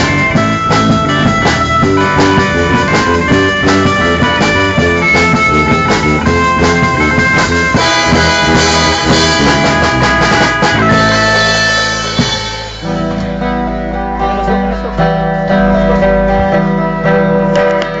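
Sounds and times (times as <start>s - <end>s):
drum kit: 0.0s - 18.0s
electric guitar: 0.0s - 18.0s.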